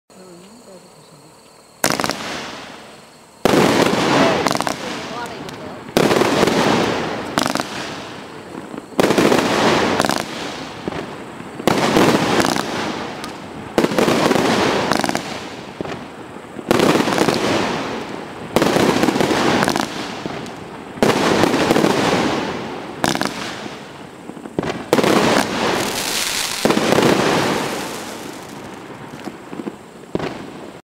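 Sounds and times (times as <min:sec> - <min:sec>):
fireworks shots banging: 0:01.8 - 0:30.8.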